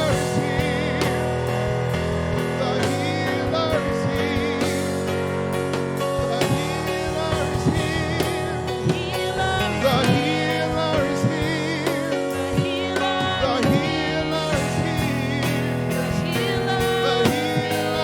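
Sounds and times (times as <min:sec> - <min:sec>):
person singing: 0:00.0 - 0:01.5, 0:02.6 - 0:05.0, 0:06.2 - 0:18.0
drum hits: 0:00.0 - 0:18.0
instrumental chords: 0:00.0 - 0:18.0.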